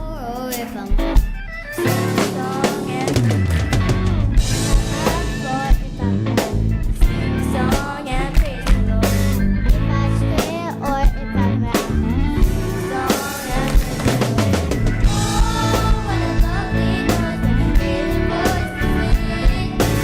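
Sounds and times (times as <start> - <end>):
drum kit beat: 0.0 - 20.0
bass line: 1.0 - 20.0.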